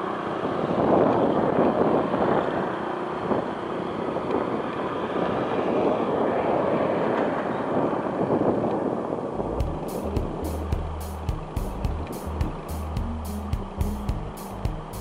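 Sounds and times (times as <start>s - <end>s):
boat engines droning: 0.0s - 15.0s
wind and sea rushing: 0.0s - 15.0s.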